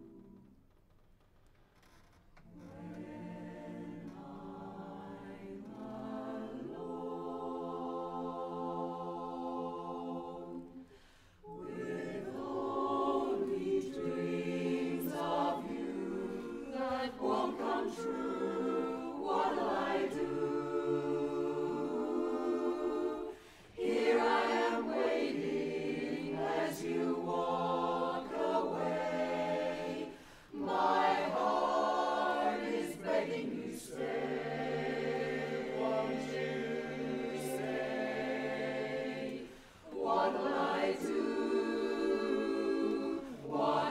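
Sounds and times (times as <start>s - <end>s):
chorus singing a cappella: 0.0s - 0.5s, 2.5s - 43.9s.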